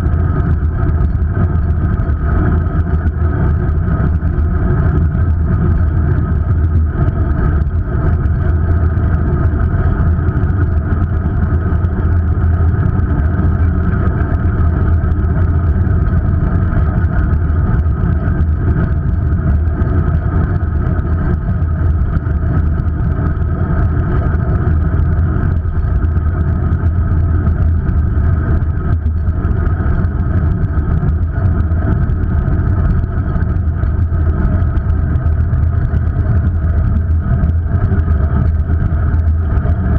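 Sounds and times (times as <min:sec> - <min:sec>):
bicycle riding rumble and wind: 0:00.0 - 0:39.9.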